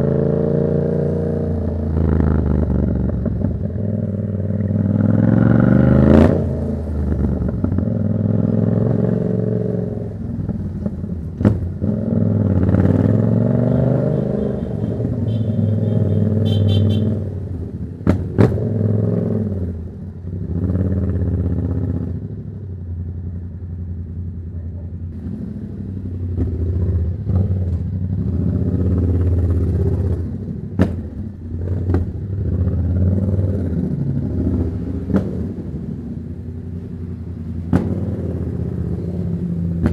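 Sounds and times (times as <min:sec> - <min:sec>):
motorcycle engine revving: 0:00.0 - 0:22.3, 0:25.1 - 0:39.9.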